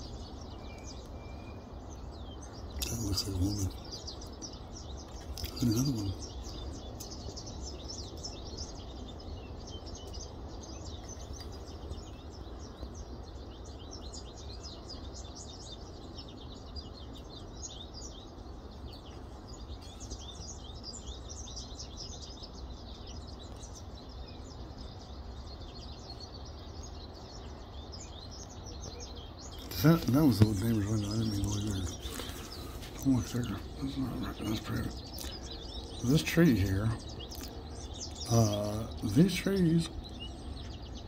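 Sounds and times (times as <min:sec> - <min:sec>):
songbirds chirping and twittering: 0:00.0 - 0:41.0.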